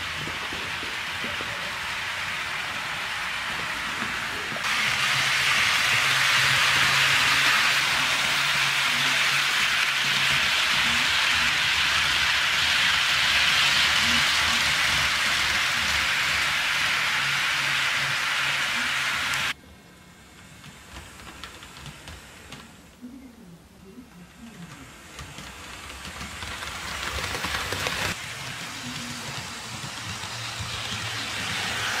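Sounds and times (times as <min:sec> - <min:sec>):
model train wheels hissing on rail: 0:00.0 - 0:19.6, 0:20.2 - 0:22.9, 0:24.2 - 0:32.0.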